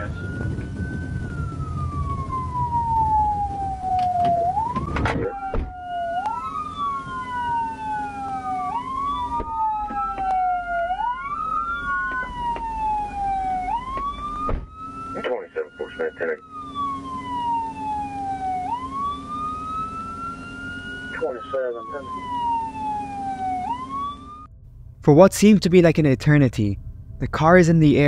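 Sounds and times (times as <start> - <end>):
police sirens wailing: 0.0 - 24.5
low road rumble: 0.0 - 28.0.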